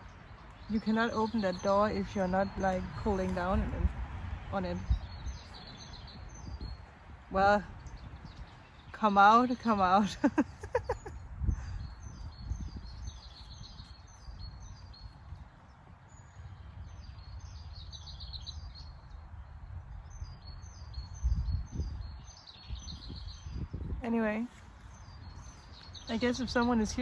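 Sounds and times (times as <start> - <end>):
small birds chirping and trilling: 0.0 - 27.0
wind buffeting microphone: 0.0 - 27.0.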